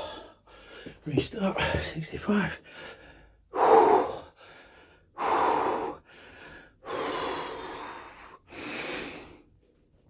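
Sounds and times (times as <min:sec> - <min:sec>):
man breathing heavily: 0:00.0 - 0:09.8.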